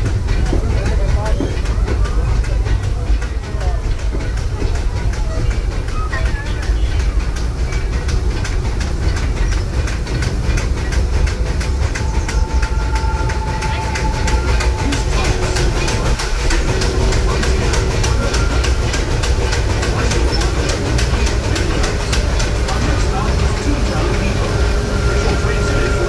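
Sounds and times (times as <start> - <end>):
rapid even clicking: 0.0 - 26.0
rumble of wheels on track: 0.0 - 26.0.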